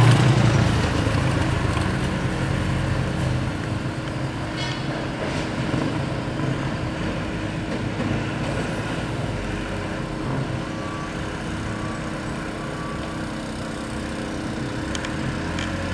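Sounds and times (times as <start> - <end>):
diesel engines running: 0.0 - 15.9
street traffic: 0.0 - 15.9.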